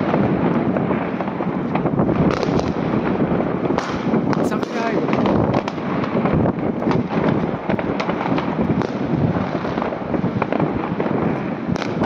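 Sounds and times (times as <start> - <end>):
fireworks and firecrackers crackling: 0.0 - 12.0.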